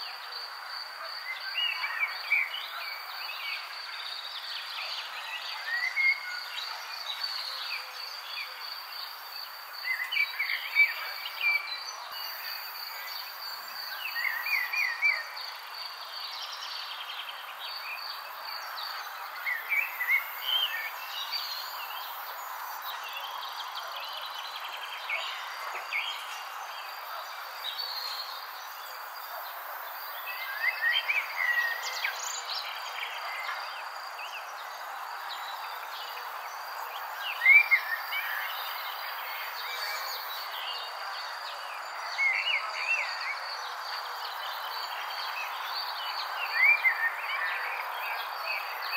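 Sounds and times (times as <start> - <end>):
constant hiss: 0.0 - 48.9.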